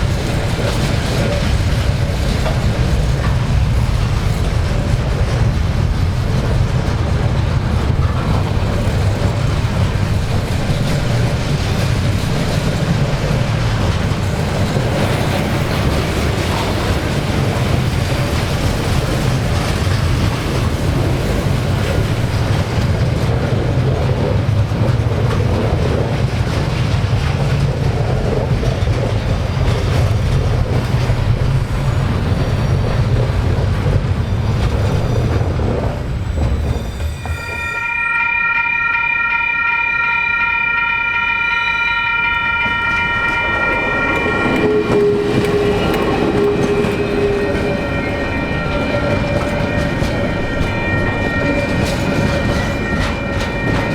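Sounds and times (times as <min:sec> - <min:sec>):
freight train on rails: 0:00.0 - 0:53.9.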